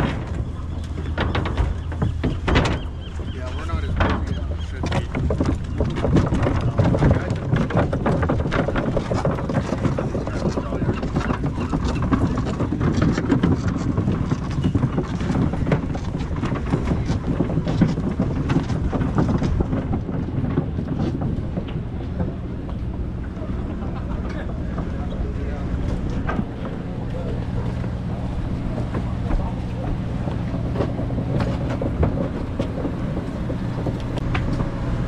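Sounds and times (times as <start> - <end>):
boat engine drone: 0.0 - 35.0
small knocks and clatter: 0.0 - 35.0
water noise: 0.0 - 35.0
wind: 0.0 - 35.0.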